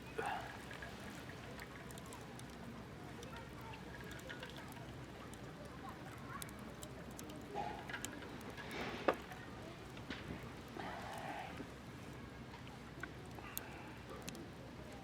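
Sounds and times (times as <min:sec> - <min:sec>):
campfire crackling: 0:00.1 - 0:15.0.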